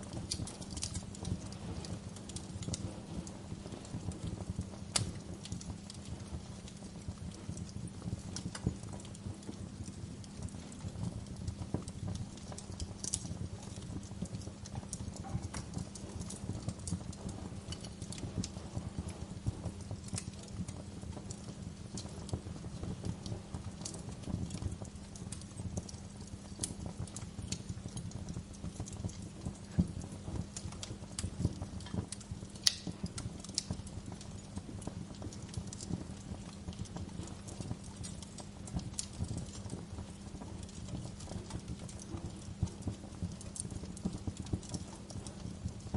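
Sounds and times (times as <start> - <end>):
low fire rumble: 0.0 - 45.9
sharp fire pops: 0.0 - 45.9
wood fire crackling: 0.0 - 45.9.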